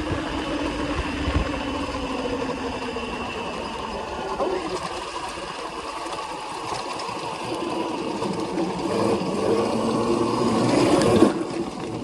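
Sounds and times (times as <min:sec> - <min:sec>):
electric bike motor whining: 0:00.0 - 0:12.0.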